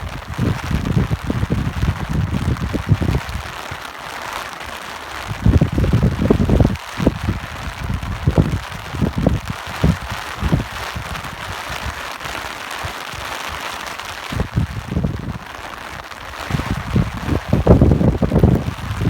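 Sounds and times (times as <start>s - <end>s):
wind gusts rumbling: 0.0s - 3.8s, 5.0s - 19.0s
rain hissing: 0.0s - 19.0s.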